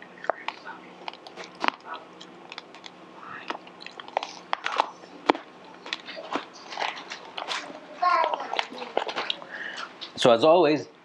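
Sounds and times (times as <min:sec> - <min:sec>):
chewing crunchy crackers: 0:00.2 - 0:10.2.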